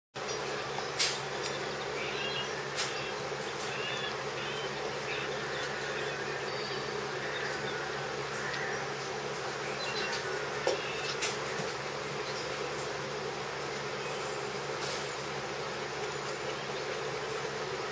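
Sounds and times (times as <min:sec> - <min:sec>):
faint high whines: 0:00.2 - 0:17.9
low buzzing hum: 0:00.2 - 0:17.9.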